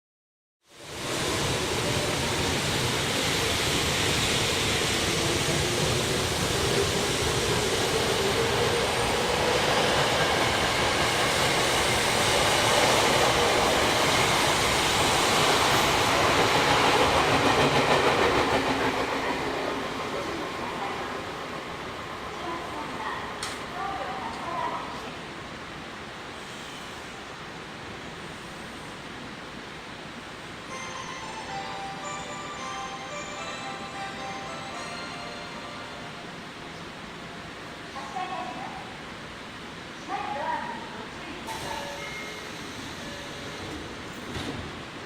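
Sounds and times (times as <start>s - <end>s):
train rumbling: 0.8s - 45.0s.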